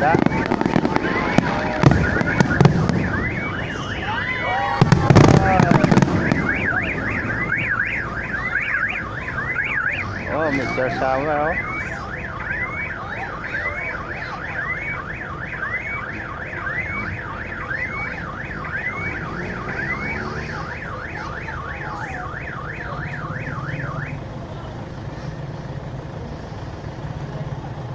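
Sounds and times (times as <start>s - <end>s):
car alarm wailing: 0.0s - 24.7s
low traffic rumble: 0.0s - 27.9s.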